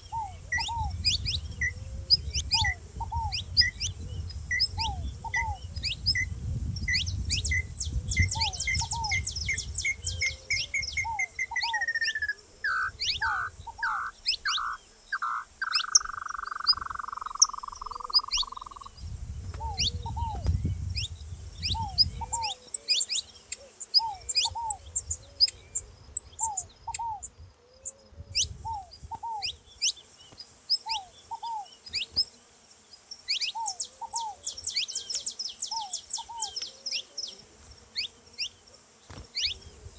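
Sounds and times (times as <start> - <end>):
dove cooing: 0.0 - 6.3, 7.4 - 18.9, 19.5 - 20.6, 21.7 - 29.6, 30.8 - 32.2, 33.4 - 38.5
finches chirping: 0.0 - 32.4, 33.0 - 39.9.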